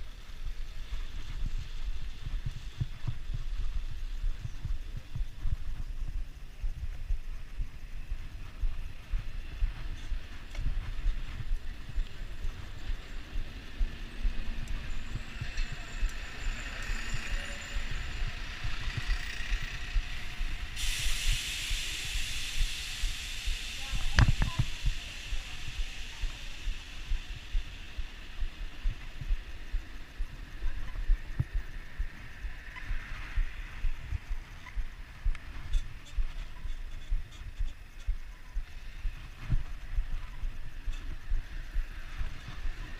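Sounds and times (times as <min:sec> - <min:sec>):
bicycle riding hiss: 0:00.0 - 0:42.9
wind buffeting microphone: 0:00.0 - 0:42.9.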